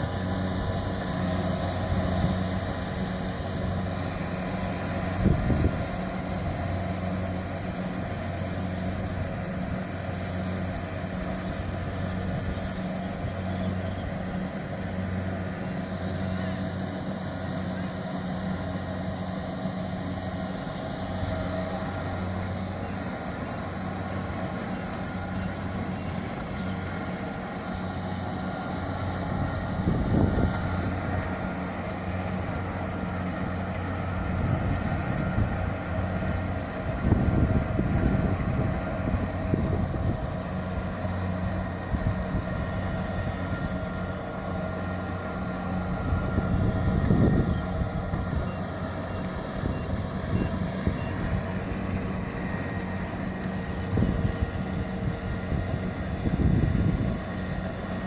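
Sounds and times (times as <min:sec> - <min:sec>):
combine harvester diesel engine running: 0:00.0 - 0:58.0.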